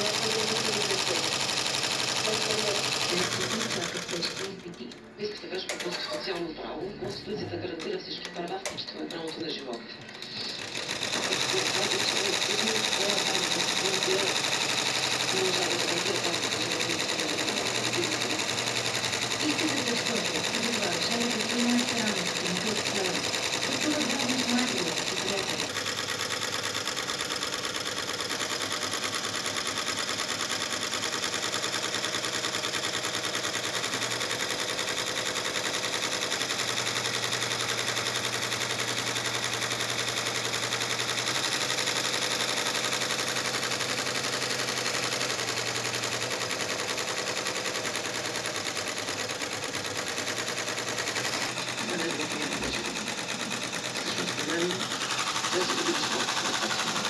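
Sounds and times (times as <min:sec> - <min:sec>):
embroidery machine rattling: 0:00.0 - 0:57.0.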